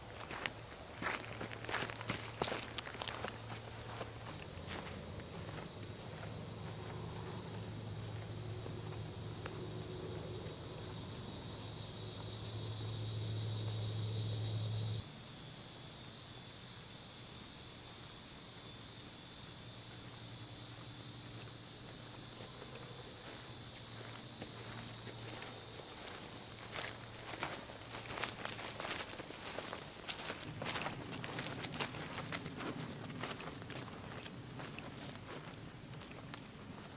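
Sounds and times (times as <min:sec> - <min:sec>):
insects droning: 0:00.0 - 0:36.9.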